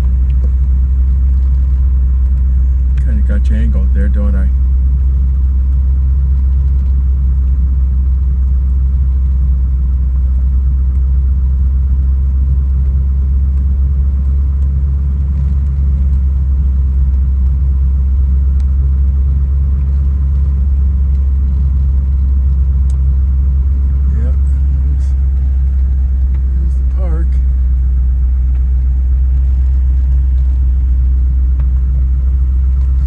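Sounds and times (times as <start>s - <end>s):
car engine low rumble: 0.0s - 33.0s.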